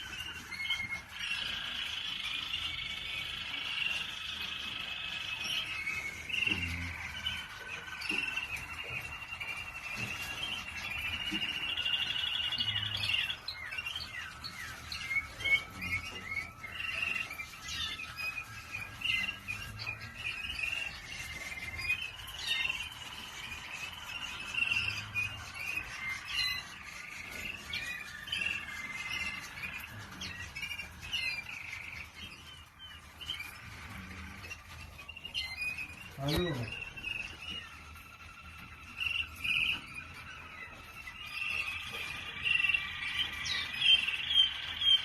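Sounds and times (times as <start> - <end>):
canary singing trills: 0.0 - 45.0.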